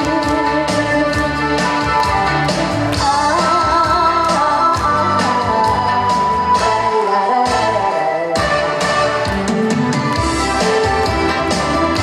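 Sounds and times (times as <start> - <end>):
backing music with steady beat: 0.0 - 12.0.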